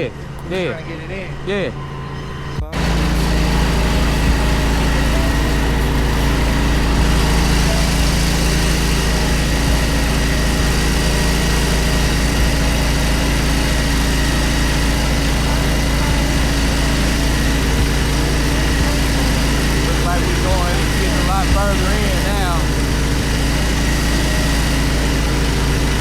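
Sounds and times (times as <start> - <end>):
engine and pump humming: 0.0 - 26.0.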